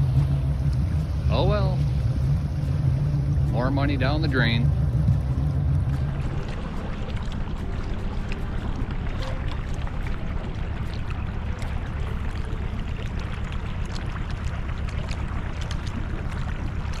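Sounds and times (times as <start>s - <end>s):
boat motor rumble: 0.0s - 17.0s
water splashing along hull: 0.0s - 17.0s.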